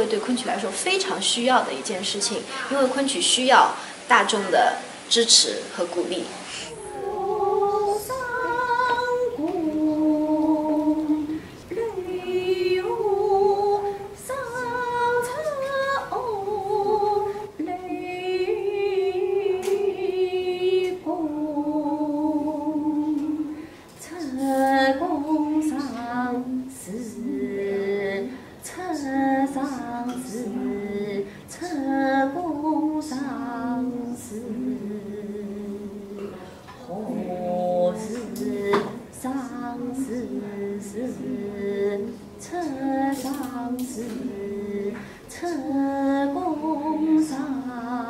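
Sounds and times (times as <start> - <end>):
woman singing opera: 6.2 - 48.0.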